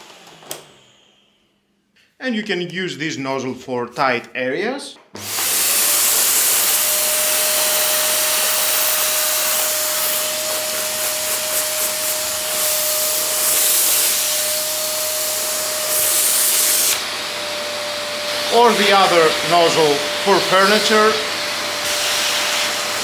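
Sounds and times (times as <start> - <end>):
vacuum cleaner running: 0.0 - 1.3, 5.2 - 23.0.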